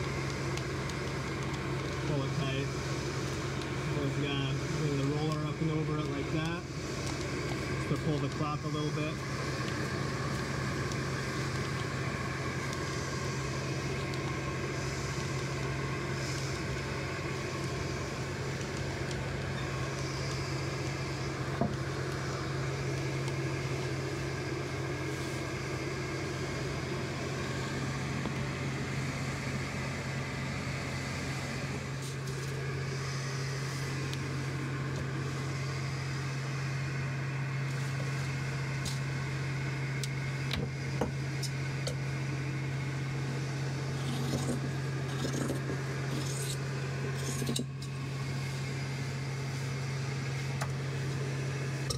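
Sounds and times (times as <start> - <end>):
fan motor humming: 0.0 - 51.9.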